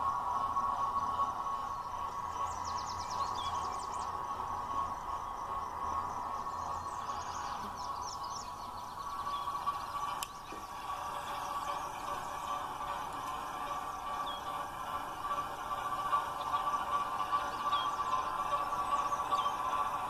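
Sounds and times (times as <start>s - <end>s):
birds chirping: 0.0s - 20.0s
model train electric hum: 0.0s - 20.0s.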